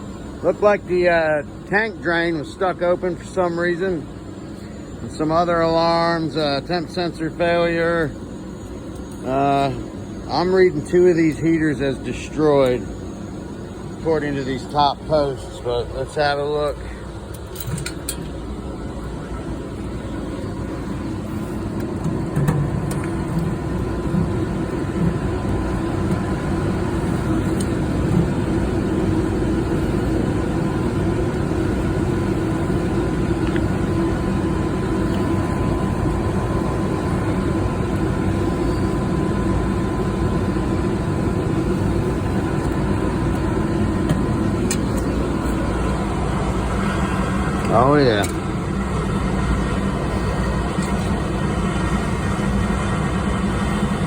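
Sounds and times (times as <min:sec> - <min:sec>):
air handler humming: 0:00.0 - 0:54.0.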